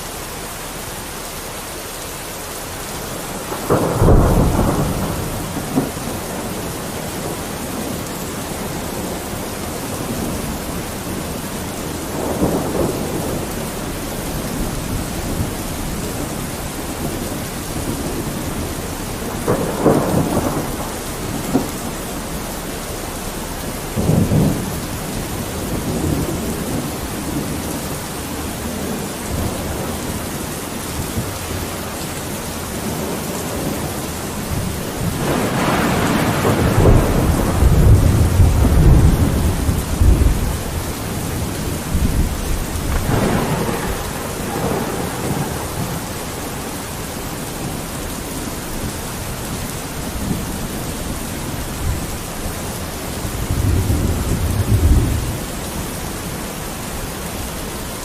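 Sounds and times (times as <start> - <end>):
steady rain falling: 0.0 - 58.0
thunder rumbling: 2.6 - 58.0.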